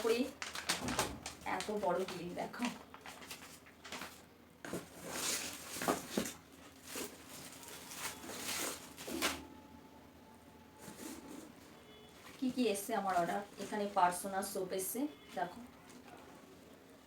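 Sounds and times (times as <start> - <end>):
paper and packaging rustling: 0.0 - 9.5, 10.8 - 17.0.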